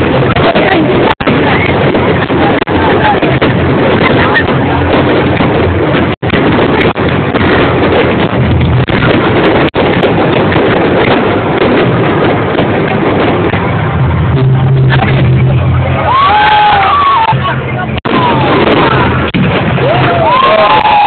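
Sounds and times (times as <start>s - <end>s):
fireworks crackling barrage: 0.0s - 21.0s.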